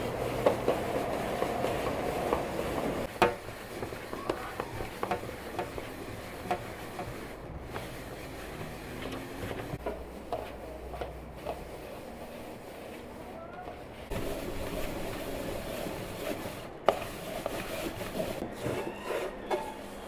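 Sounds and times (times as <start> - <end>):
hands rubbing flour in colander: 0.0 - 20.0.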